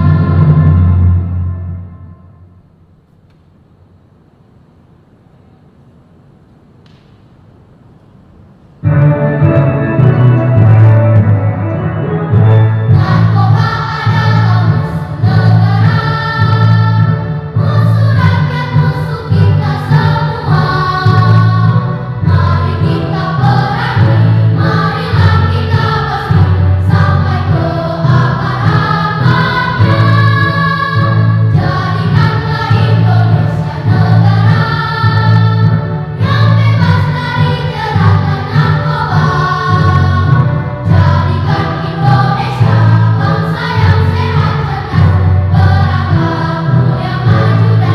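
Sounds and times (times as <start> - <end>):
children's choir singing: 0.0 - 2.4, 8.8 - 47.9
pulsing keyboard accompaniment: 8.8 - 47.9.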